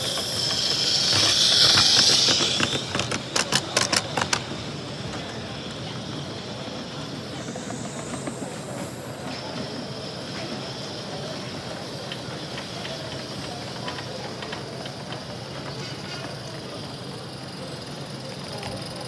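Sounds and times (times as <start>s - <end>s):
model steam locomotive hissing: 0.0s - 19.0s.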